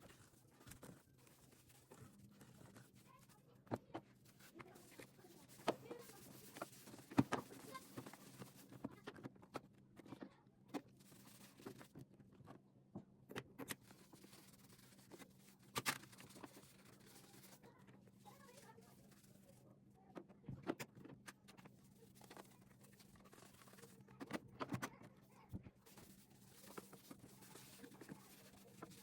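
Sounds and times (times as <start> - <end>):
handling clicks and rustling: 0.0 - 19.5, 20.1 - 29.0.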